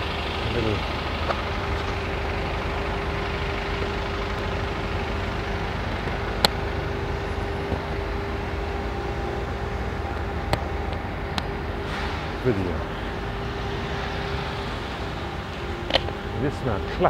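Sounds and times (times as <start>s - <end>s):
constant hum: 0.0s - 17.0s
vehicle engine rumble: 0.0s - 17.0s.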